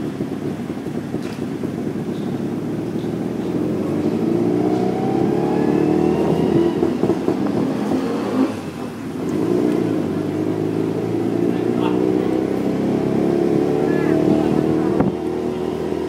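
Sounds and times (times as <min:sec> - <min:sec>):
small engine revving: 0:01.1 - 0:16.0.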